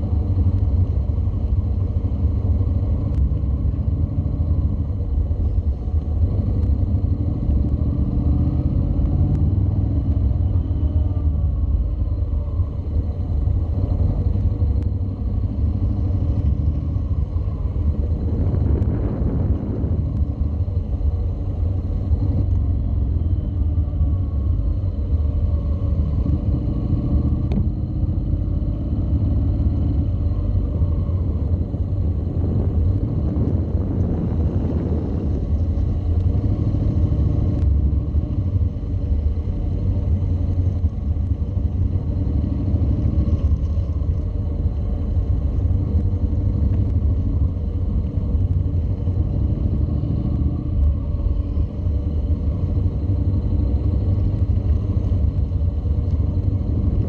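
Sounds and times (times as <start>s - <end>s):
motorcycle engine low rumble: 0.0s - 57.0s.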